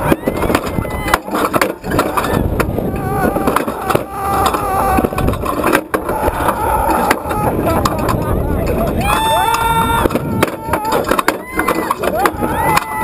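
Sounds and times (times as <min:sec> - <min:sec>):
people laughing and screaming: 0:00.0 - 0:13.0
wind rushing over microphone: 0:00.0 - 0:13.0.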